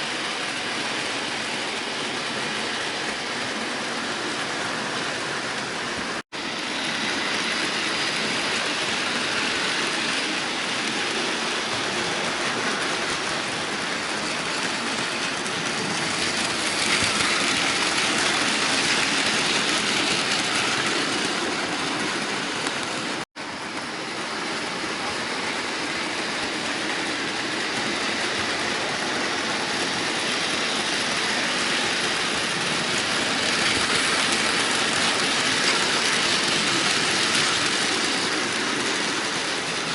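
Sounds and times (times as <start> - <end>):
model train whirring and rattling: 0.0 - 39.9.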